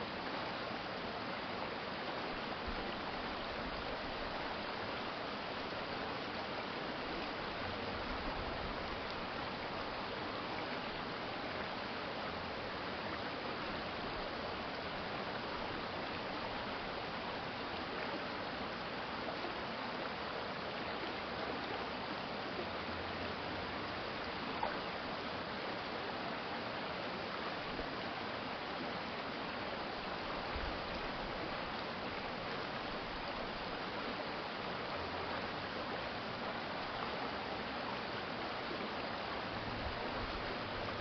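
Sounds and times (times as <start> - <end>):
stream water flowing: 0.0 - 41.0.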